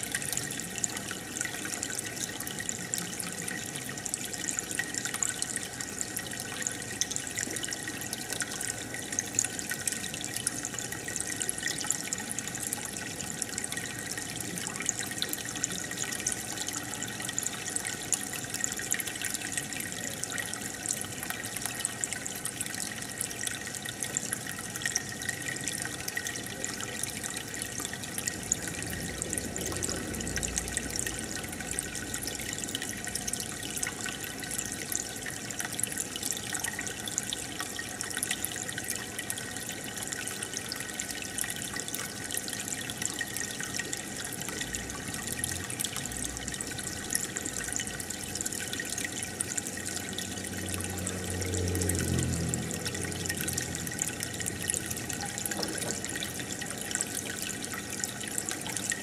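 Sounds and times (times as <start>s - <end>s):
aquarium water bubbling: 0.0s - 59.0s.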